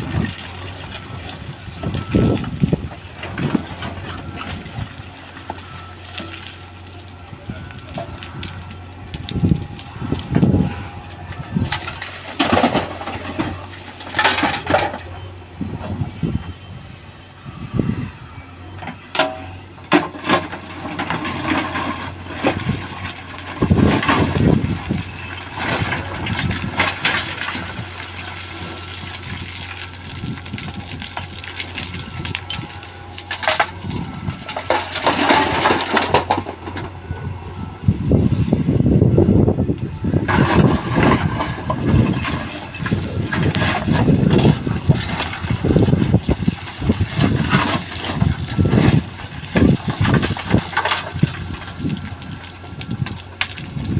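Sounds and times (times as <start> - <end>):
heavy machinery engine hum: 0.0 - 53.9.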